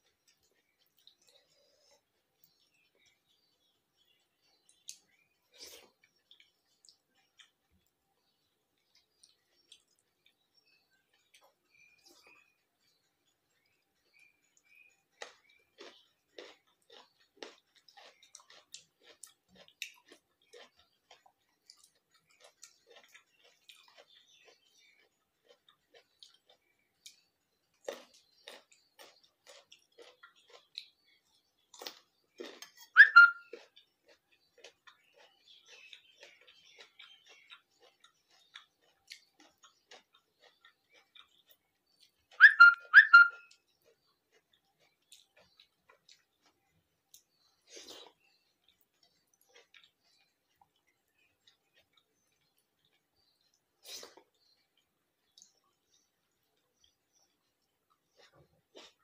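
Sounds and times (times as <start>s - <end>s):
soft chewing: 0.0s - 59.0s.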